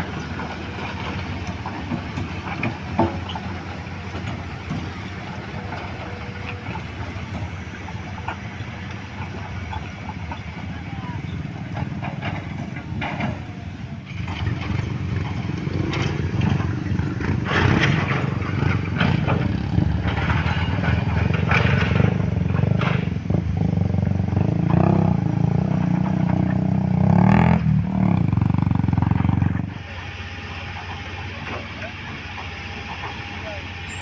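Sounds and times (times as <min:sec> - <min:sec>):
knocks and clatter: 0:00.0 - 0:29.7
heavy engine running: 0:00.0 - 0:34.0.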